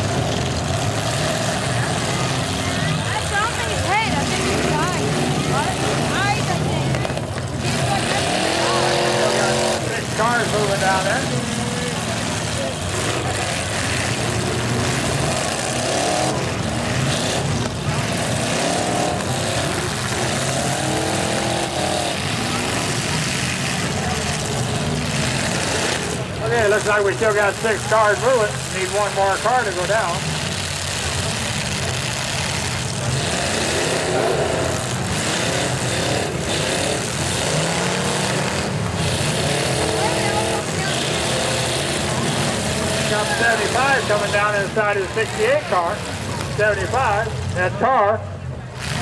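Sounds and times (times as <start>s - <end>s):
car engines revving: 0.0s - 49.0s
loud engine din: 0.0s - 49.0s.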